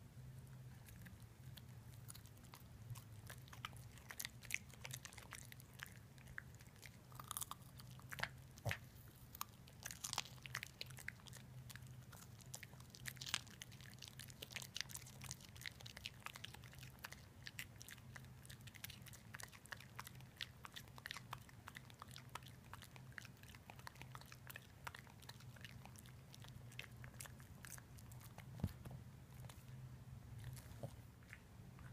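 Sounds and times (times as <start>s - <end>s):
steady low hum: 0.0s - 31.9s
dog crunching a carrot: 0.6s - 29.8s.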